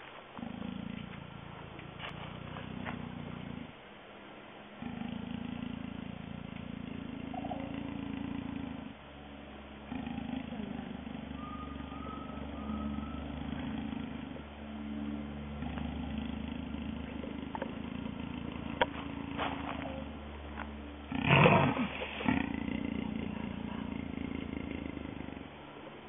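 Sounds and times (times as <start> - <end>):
jaguar growling low: 0.4 - 3.8, 4.7 - 26.0
jaguar snarling roar: 0.4 - 3.8, 4.8 - 9.0, 9.8 - 14.4, 15.5 - 20.2, 21.1 - 25.6.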